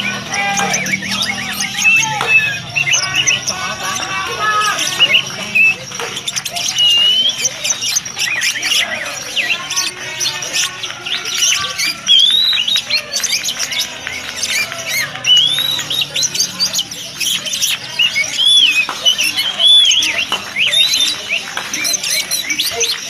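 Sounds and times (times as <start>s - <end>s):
bird singing whistles and chirps: 0.0s - 23.0s.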